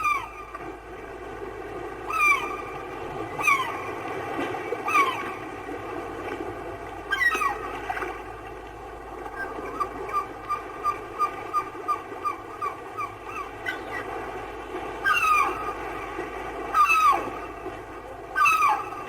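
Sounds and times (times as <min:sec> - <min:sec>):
seagulls calling: 0:00.0 - 0:00.7, 0:02.0 - 0:05.7, 0:07.0 - 0:08.2, 0:09.2 - 0:19.0.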